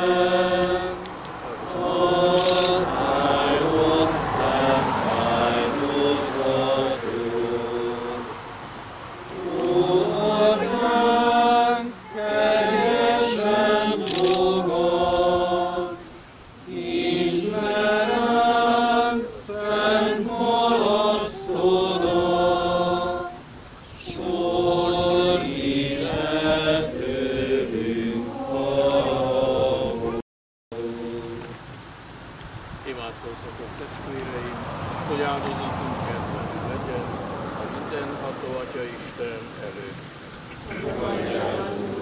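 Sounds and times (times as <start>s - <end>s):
voices singing a hymn: 0.0s - 30.2s, 30.8s - 32.1s, 34.1s - 42.0s.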